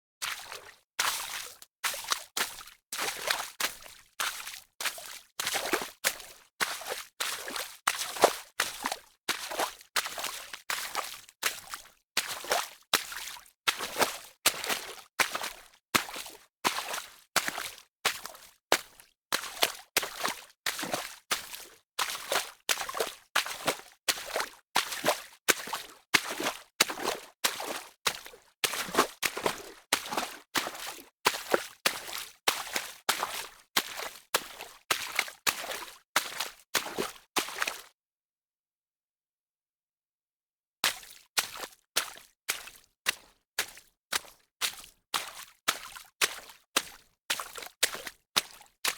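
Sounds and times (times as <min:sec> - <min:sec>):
footsteps splashing through water: 0:00.2 - 0:37.9, 0:40.8 - 0:48.9.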